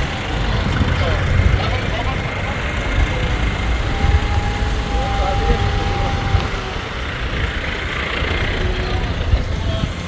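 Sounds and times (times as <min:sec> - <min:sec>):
faint voices: 0:00.0 - 0:10.0
vehicle engine running: 0:00.0 - 0:10.0.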